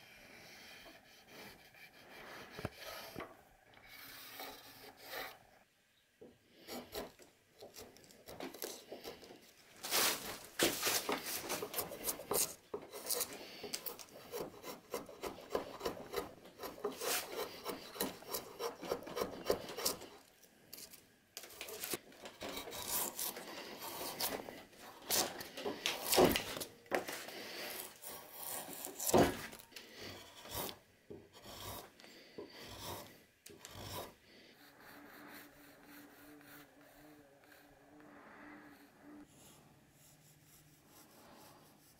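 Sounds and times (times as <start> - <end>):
drawknife scraping wood: 0.4 - 5.5, 6.6 - 30.8, 31.4 - 37.6.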